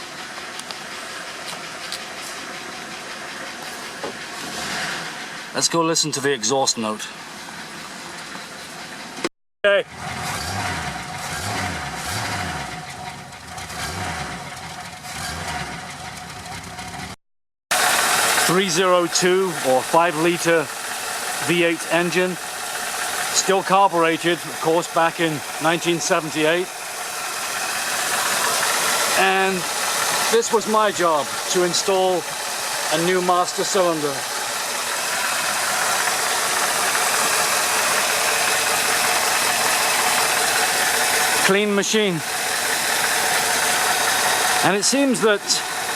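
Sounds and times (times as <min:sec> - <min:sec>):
car engine idling: 0:00.0 - 0:09.3, 0:09.9 - 0:45.9.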